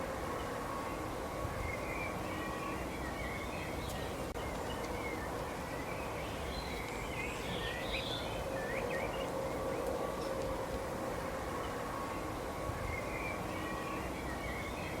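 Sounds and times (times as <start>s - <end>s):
birds chirping: 0.2s - 10.4s, 11.5s - 15.0s.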